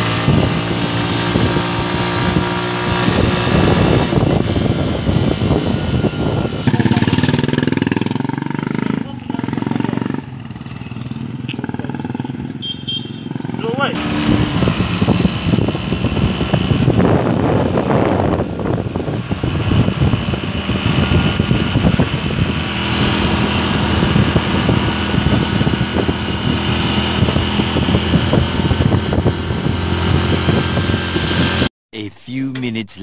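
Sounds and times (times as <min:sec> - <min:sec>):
wind on microphone: 0:00.0 - 0:08.9, 0:14.0 - 0:31.7
motorcycle engine running: 0:00.0 - 0:31.7.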